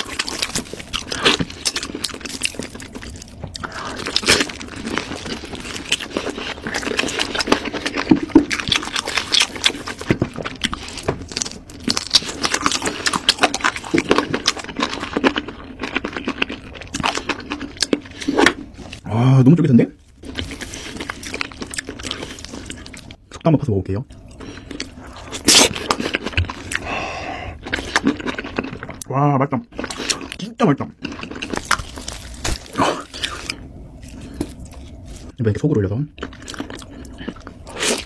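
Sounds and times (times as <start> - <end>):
chewing and mouth sounds: 0.0 - 19.0, 20.2 - 23.4, 24.1 - 35.4, 36.1 - 38.0.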